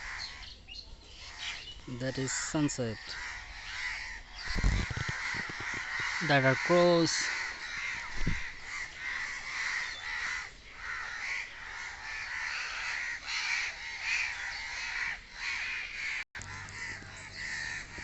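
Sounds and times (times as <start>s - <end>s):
crows cawing: 0.0s - 18.0s.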